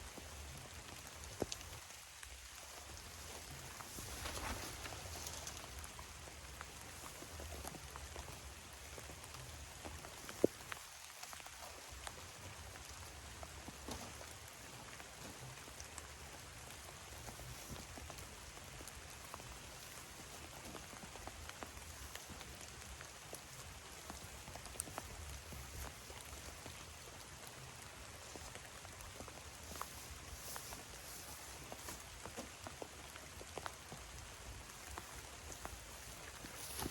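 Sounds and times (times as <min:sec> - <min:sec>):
steady rain: 0:00.0 - 0:36.9.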